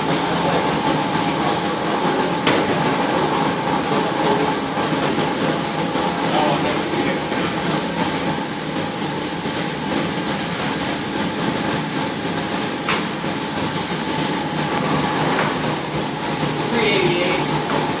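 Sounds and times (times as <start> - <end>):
coffee roaster whirring: 0.0 - 18.0.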